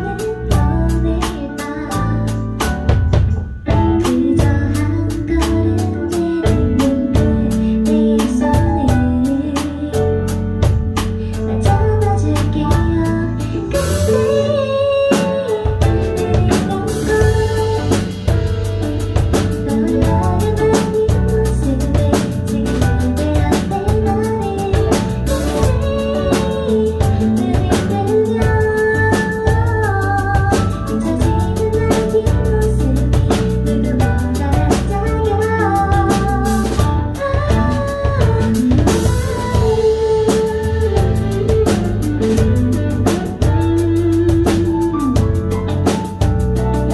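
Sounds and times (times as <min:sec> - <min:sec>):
woman singing pop ballad: 0:00.0 - 0:18.4, 0:19.2 - 0:46.0
drum kit and bass backing: 0:00.0 - 0:46.9.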